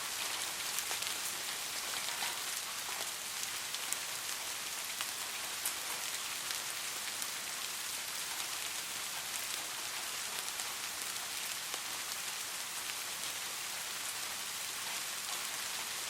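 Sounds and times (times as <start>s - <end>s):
soft rain hiss: 0.0s - 16.0s.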